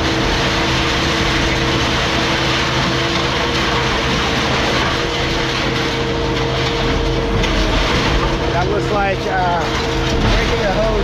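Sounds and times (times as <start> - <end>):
heavy machinery engine drone: 0.0 - 11.0.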